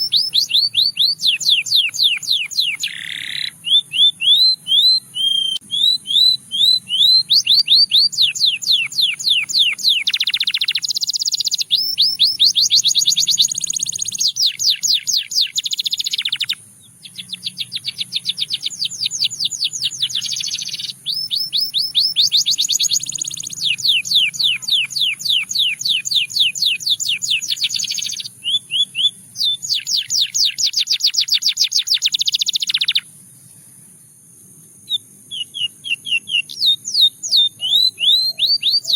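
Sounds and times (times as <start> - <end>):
canary singing rapid trills: 0.0 - 33.3, 34.9 - 38.9.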